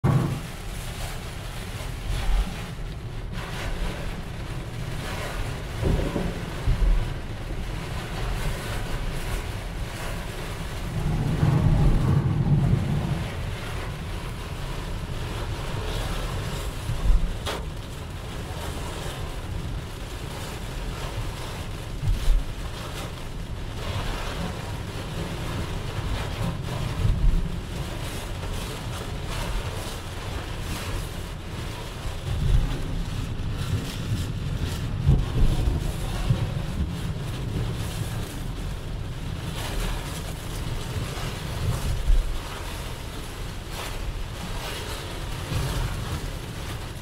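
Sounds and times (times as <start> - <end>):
heavy rain on a car: 0.0 - 47.0
low rumble: 0.0 - 47.0
wet road and wind noise: 0.0 - 47.0.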